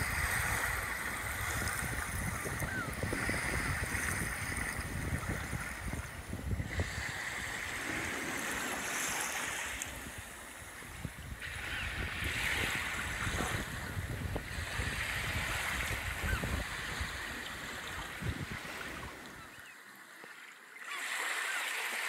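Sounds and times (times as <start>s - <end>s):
surf washing onto beach: 0.0s - 19.4s
wind rumbling on microphone: 0.0s - 19.5s.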